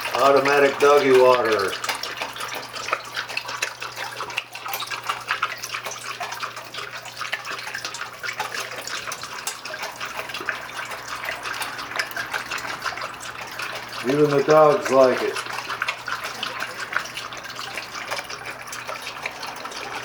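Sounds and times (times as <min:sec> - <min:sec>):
low pump hum: 0:00.0 - 0:20.0
water splashing and trickling: 0:00.0 - 0:20.0.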